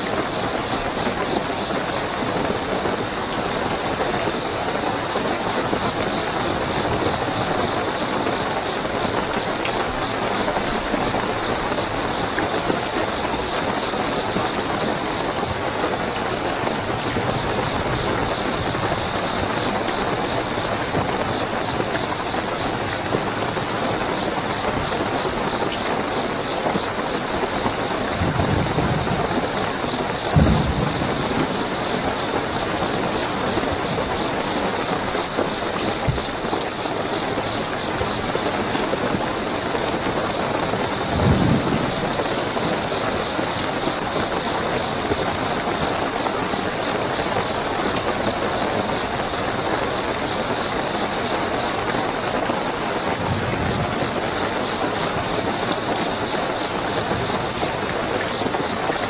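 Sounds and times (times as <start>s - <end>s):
crickets trilling: 0.0s - 59.0s
heavy rainfall: 0.0s - 59.0s.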